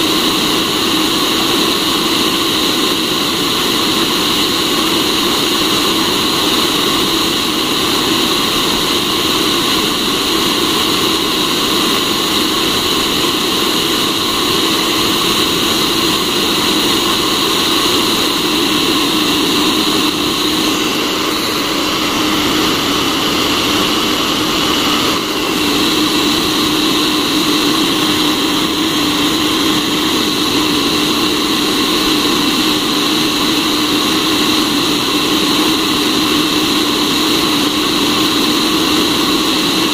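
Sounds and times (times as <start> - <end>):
roaster blower whirring: 0.0 - 39.9.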